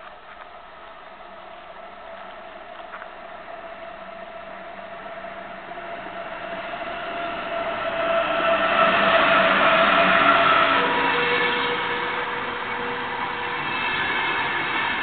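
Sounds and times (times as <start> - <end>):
electric locomotive whine: 0.0 - 15.0
train rumble: 0.0 - 15.0.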